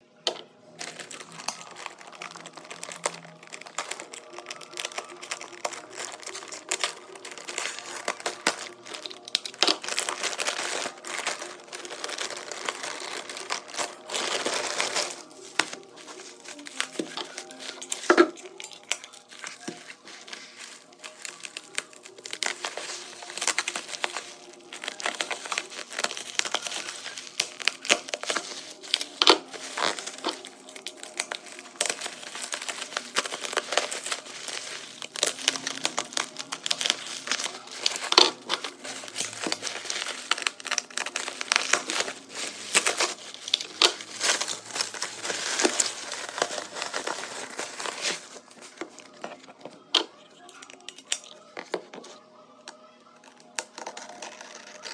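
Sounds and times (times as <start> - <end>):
packaging crinkling: 0.3 - 54.9.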